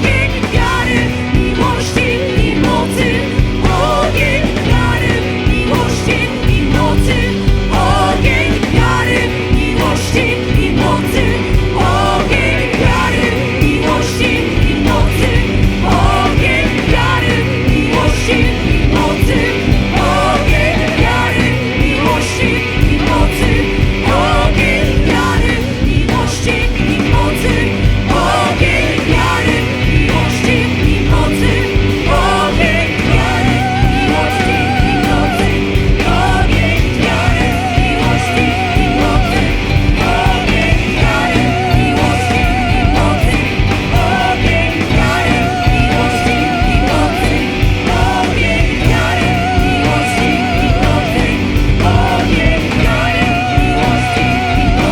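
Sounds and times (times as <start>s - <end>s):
drums: 0.0s - 54.9s
sustained chords: 0.0s - 54.9s.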